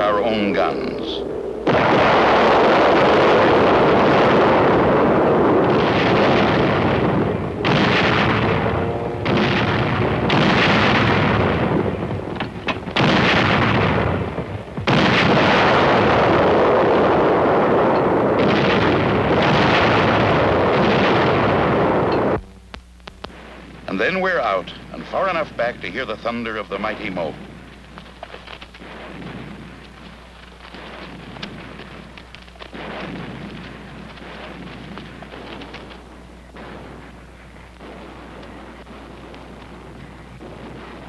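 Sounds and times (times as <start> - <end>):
artillery guns firing: 0.0 - 22.4, 23.1 - 41.0.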